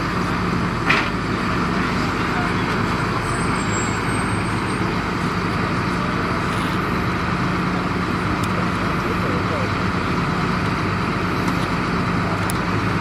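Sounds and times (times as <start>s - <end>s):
road traffic noise: 0.0s - 13.0s
truck engine idling: 0.0s - 13.0s.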